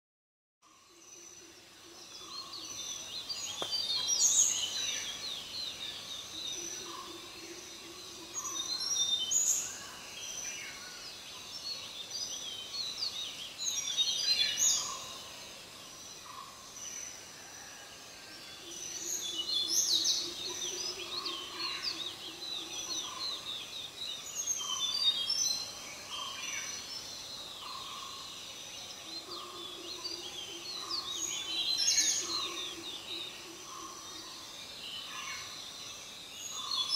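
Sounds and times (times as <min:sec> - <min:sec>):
forest birds singing: 0:00.6 - 0:36.9.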